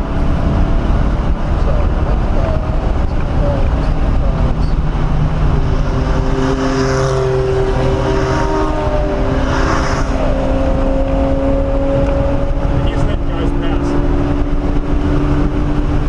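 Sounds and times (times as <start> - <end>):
car engine running: 0.0 - 16.0
rushing noise: 0.0 - 16.0.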